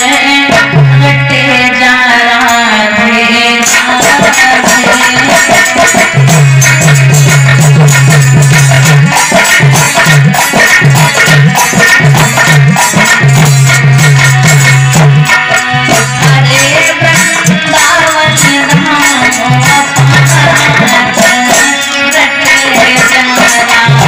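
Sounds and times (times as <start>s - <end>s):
rhythmic percussion: 0.0s - 24.0s.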